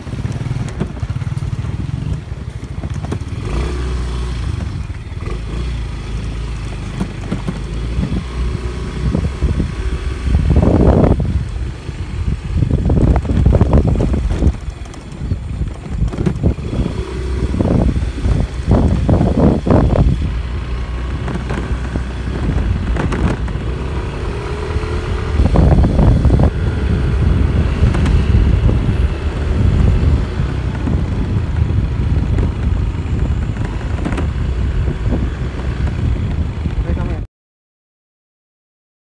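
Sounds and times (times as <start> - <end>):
motorcycle engine running: 0.0 - 37.2
wind buffeting microphone: 0.0 - 37.2.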